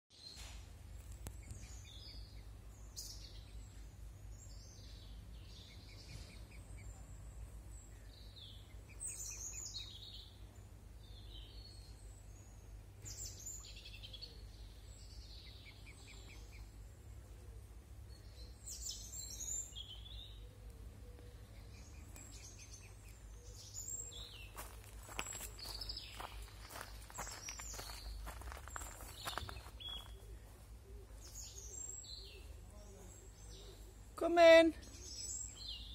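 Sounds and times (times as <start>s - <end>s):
small birds chirping: 0.1s - 35.9s.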